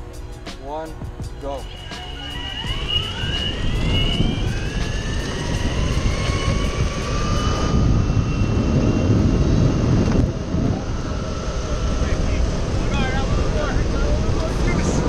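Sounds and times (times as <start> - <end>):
wind on microphone: 1.0 - 15.0
electric motors whining: 1.2 - 15.0.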